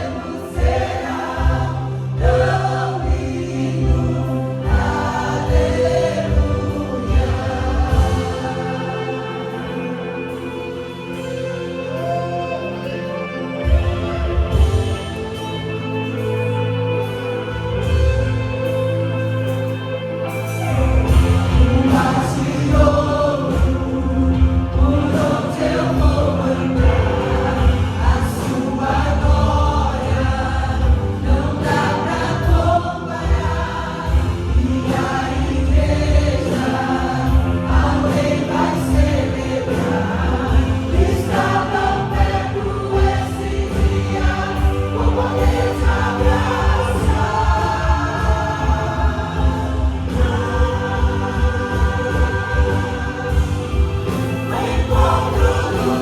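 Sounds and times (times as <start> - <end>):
band playing steady beat: 0.0 - 11.4, 13.6 - 56.0
group singing gospel song: 0.0 - 16.3, 20.4 - 56.0.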